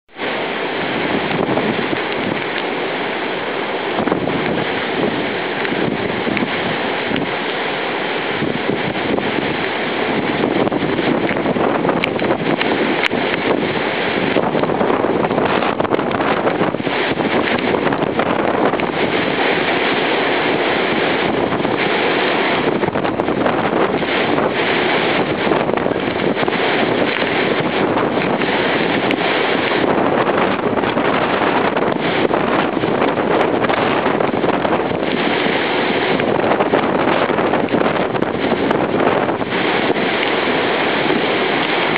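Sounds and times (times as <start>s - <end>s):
strong wind on microphone: 0.1s - 41.9s.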